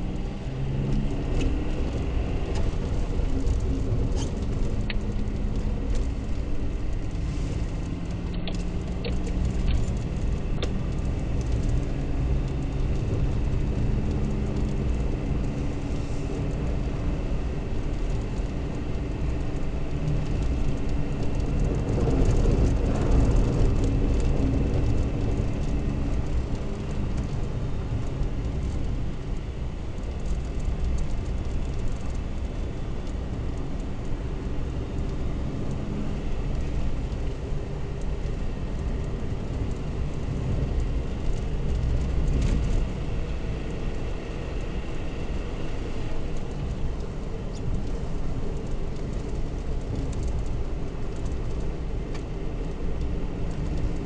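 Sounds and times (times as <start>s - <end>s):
faint steady whine: 0.0s - 54.0s
tyres and engine rumble: 0.0s - 54.0s.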